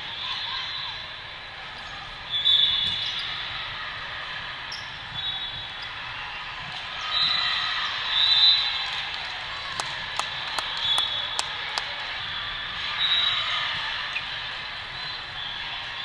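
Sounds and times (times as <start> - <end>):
crowd chatter: 0.0 - 16.0.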